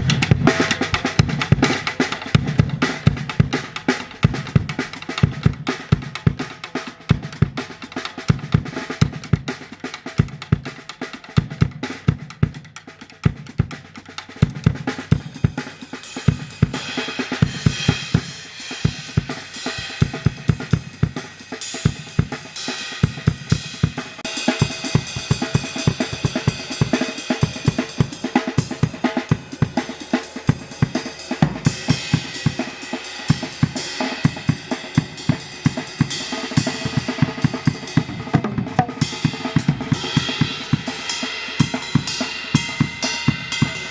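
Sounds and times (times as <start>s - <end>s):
cymbals and hi-hats: 0.0s - 43.9s
drum kit groove: 0.0s - 43.9s.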